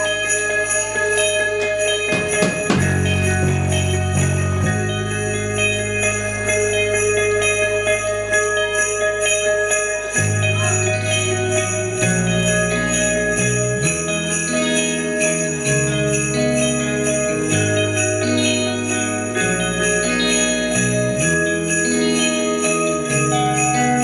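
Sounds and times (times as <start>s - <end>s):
bass guitar: 0.0s - 24.0s
electric guitar: 0.0s - 24.0s
shaken jingle instrument: 0.0s - 24.0s.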